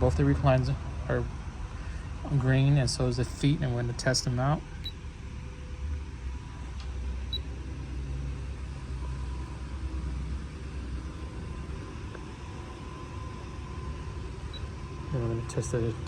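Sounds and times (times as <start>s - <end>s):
actuator motor humming: 0.0s - 16.0s.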